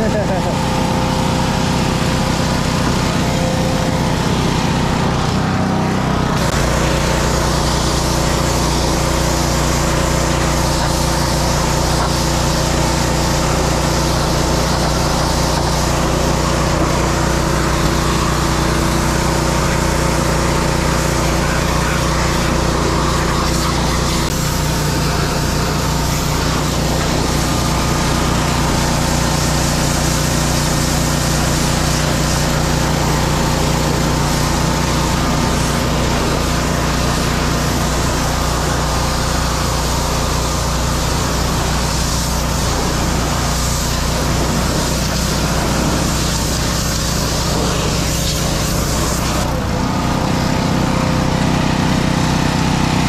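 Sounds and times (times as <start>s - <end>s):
high-pressure water jet hissing: 0.0s - 53.0s
small engine droning: 0.0s - 53.0s.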